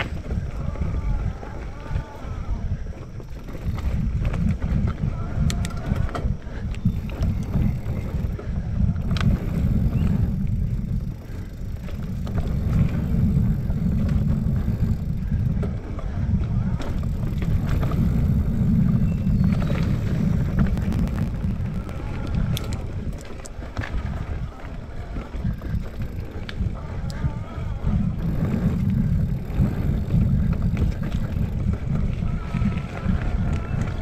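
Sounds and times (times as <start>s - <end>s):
bike clicks and rattles: 0.0s - 34.0s
bike tyre noise on dirt: 0.0s - 34.0s
wind buffeting microphone: 0.0s - 34.0s.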